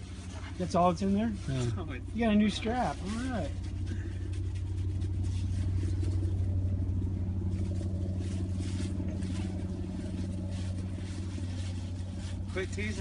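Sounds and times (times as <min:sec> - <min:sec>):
faint rustling: 0:00.0 - 0:13.0
low hum: 0:00.0 - 0:13.0.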